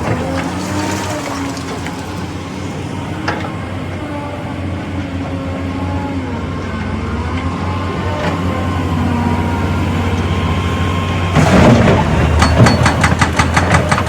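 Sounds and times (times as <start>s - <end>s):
diesel machinery humming: 0.0s - 14.0s.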